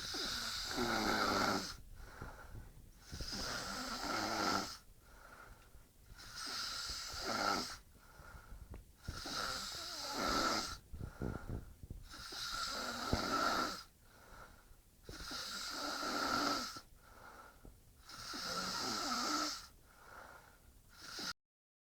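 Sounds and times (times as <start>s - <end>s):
wheezy snoring: 0.0s - 5.5s, 6.1s - 21.4s.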